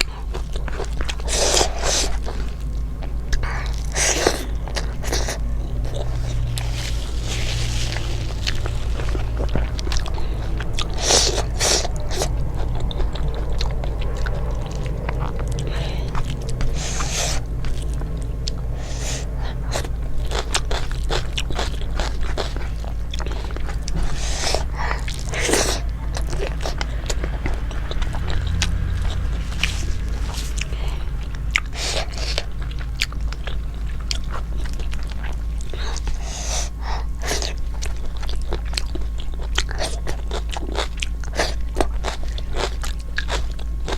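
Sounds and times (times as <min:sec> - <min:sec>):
chewing and crunching food: 0:00.0 - 0:43.9
low hum: 0:00.0 - 0:43.9.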